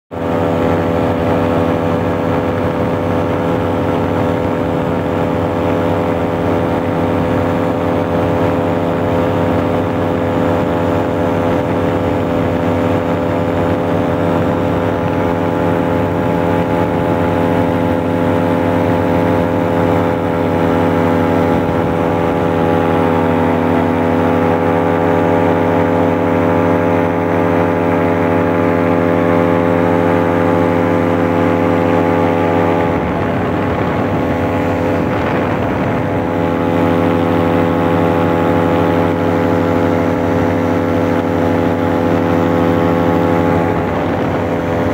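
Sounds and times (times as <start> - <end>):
engine and propeller drone: 0.1 - 44.9.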